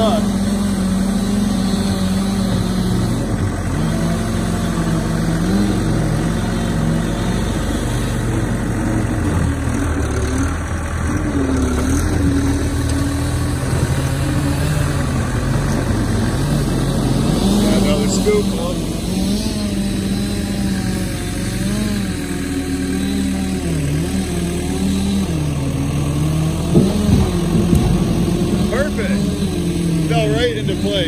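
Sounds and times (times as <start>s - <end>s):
skid steer engine running hard: 0.0s - 31.0s.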